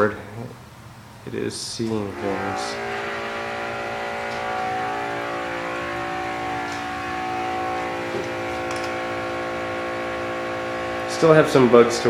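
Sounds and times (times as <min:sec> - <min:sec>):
wheelchair motors whining: 0:02.0 - 0:12.0.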